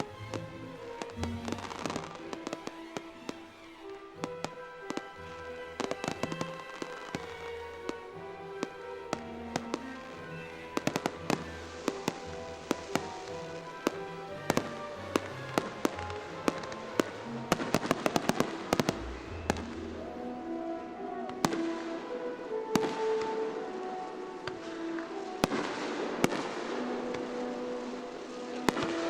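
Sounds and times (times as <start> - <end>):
fireworks bangs and crackles: 0.0 - 20.0, 21.4 - 22.0, 22.7 - 23.4, 24.4 - 29.0
music playing: 0.0 - 29.0.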